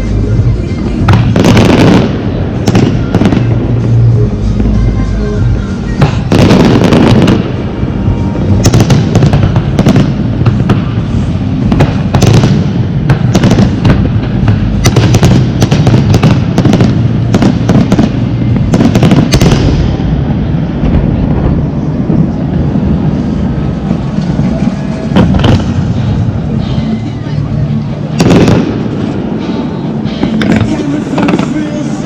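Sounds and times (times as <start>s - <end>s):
fireworks bangs and crackles: 0.0s - 32.0s
low rumble: 0.0s - 32.0s.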